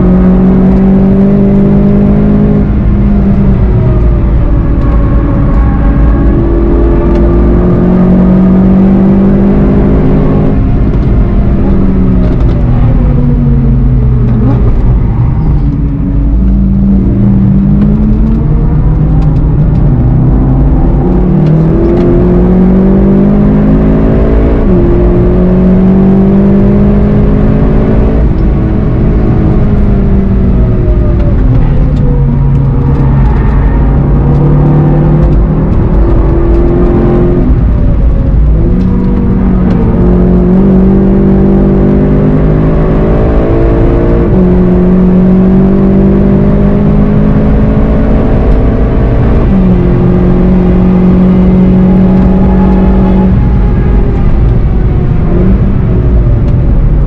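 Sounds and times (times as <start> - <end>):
car engine accelerating and braking: 0.0 - 57.0
gear upshifts: 0.0 - 57.0.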